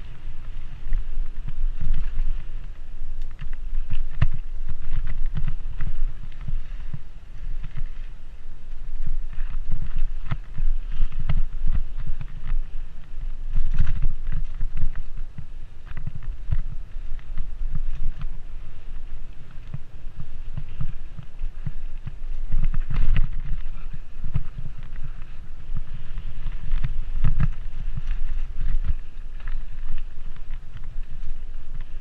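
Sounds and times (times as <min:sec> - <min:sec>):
bike clicks and rattles: 0:00.0 - 0:32.0
wind buffeting microphone: 0:00.0 - 0:32.0.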